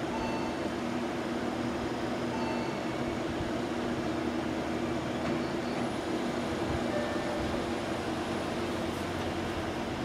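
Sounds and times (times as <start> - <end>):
electric train rumbling: 0.0 - 10.0.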